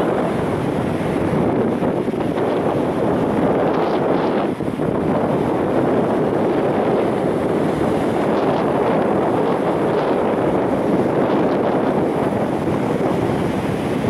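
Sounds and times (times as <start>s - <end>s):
small waves washing onto shore: 0.0s - 14.0s
wind blowing across microphone: 0.0s - 14.0s.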